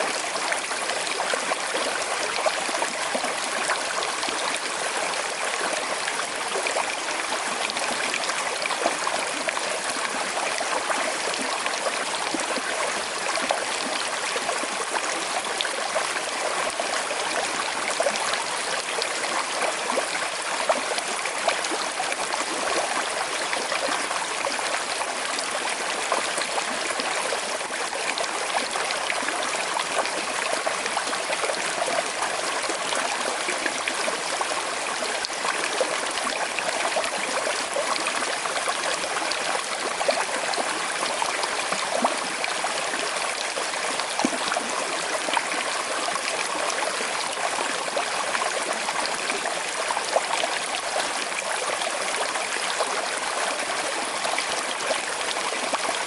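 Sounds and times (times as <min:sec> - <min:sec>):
river water flowing and trickling: 0:00.0 - 0:56.0.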